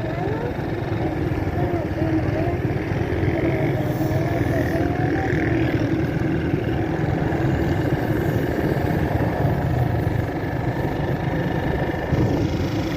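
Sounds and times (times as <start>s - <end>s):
vehicle engine and road rumble: 0.0s - 12.9s.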